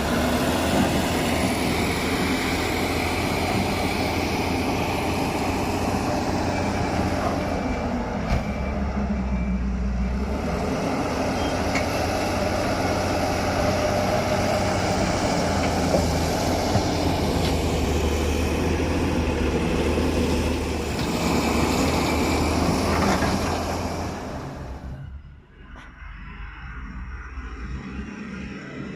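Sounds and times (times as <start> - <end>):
diesel engine running under load: 0.0 - 25.6.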